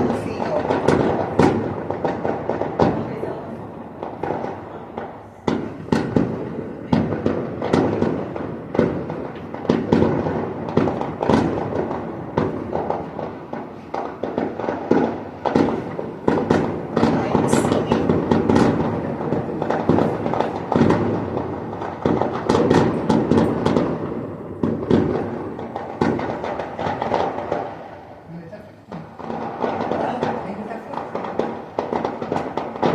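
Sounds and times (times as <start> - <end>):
fireworks bangs and crackle: 0.0 - 32.9.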